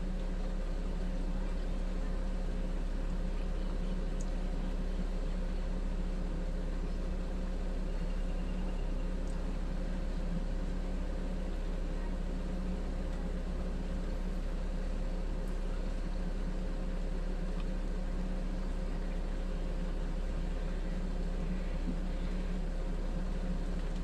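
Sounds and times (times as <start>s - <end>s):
fridge compressor and fan humming: 0.0s - 24.0s.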